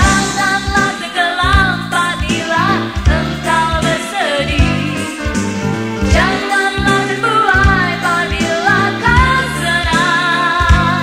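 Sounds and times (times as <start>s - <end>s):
band with bass and drums: 0.0s - 11.0s
woman singing pop ballad: 0.0s - 11.0s.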